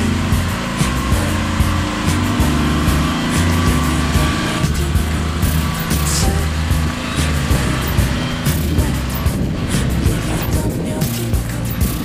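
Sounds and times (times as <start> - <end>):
background music with low bass line: 0.0 - 12.0.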